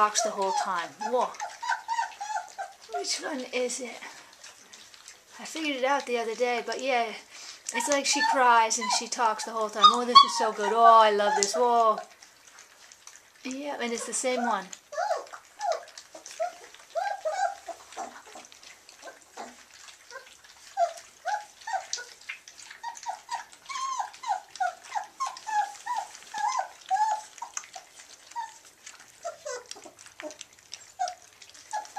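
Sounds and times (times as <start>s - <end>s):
puppy whining and whimpering: 0.0s - 3.3s, 7.7s - 12.2s, 14.0s - 31.9s
dry kibble crunching in metal bowls: 0.0s - 31.9s.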